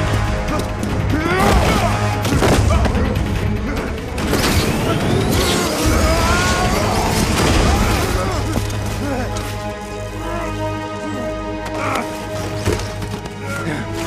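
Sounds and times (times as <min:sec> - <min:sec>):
low drone music: 0:00.0 - 0:14.0.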